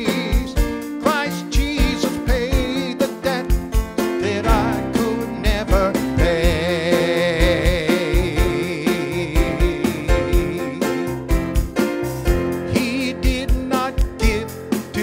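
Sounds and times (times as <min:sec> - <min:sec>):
man singing with vibrato: 0:00.0 - 0:11.3, 0:12.6 - 0:15.0
electric keyboard: 0:00.0 - 0:15.0
steady drum beat: 0:00.0 - 0:15.0.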